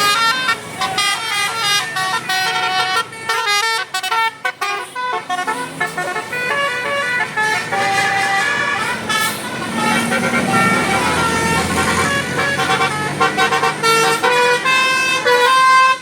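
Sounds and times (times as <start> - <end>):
musical bus horn melody: 0.0 - 16.0.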